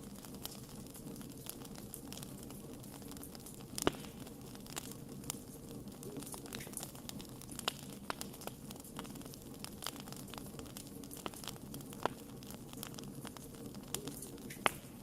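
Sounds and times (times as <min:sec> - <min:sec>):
fire snaps and pops: 0:00.0 - 0:15.0
low hiss of burning: 0:00.0 - 0:15.0.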